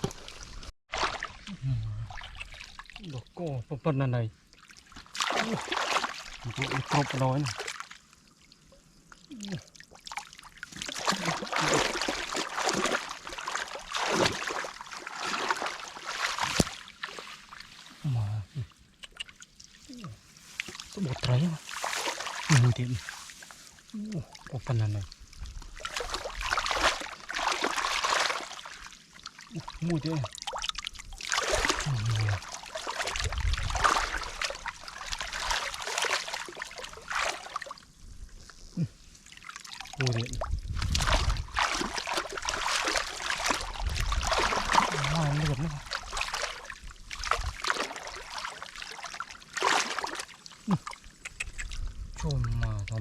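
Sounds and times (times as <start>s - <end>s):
shallow water splashing: 0.0s - 3.5s, 4.4s - 18.0s, 18.7s - 53.0s.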